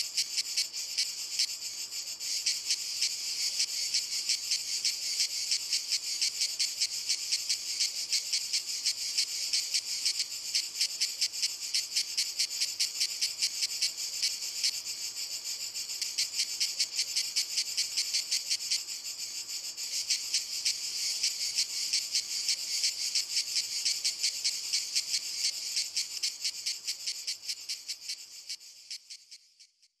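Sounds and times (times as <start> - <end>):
cicadas buzzing: 0.0 - 29.7.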